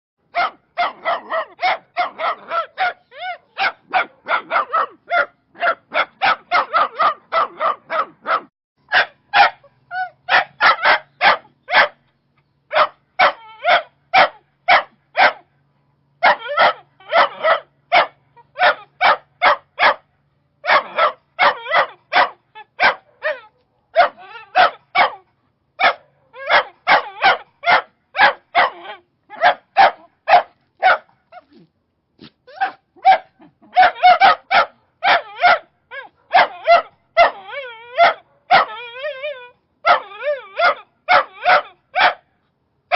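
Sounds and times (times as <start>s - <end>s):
dog barking: 0.3s - 12.0s, 12.7s - 15.5s, 16.2s - 31.2s, 32.5s - 39.2s, 39.8s - 42.3s.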